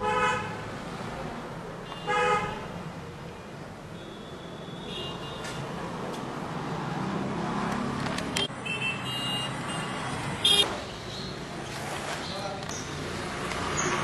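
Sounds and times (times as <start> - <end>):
vehicle engines humming: 0.0 - 14.0.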